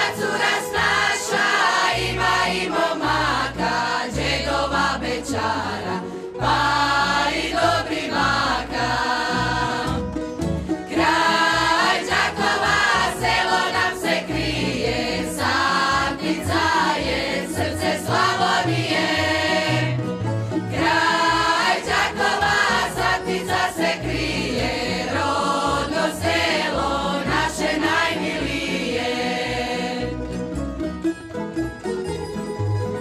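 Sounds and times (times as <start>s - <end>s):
mixed choir singing folk song: 0.0s - 30.5s.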